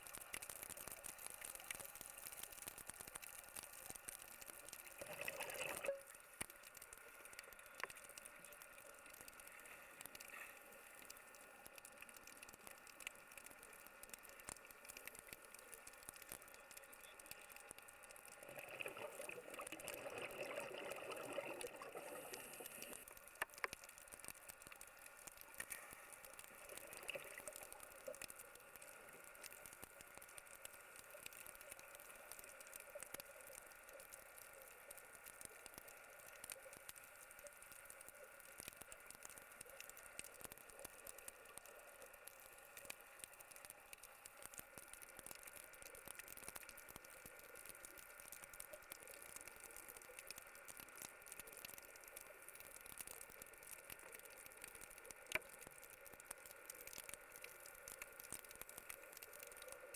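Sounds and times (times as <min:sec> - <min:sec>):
low underwater hiss: 0:00.0 - 0:59.9
small crackling clicks: 0:00.0 - 0:59.9.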